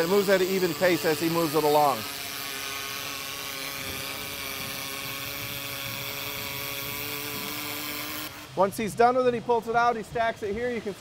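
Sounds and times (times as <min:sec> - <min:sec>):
welding hiss: 0:00.0 - 0:08.9.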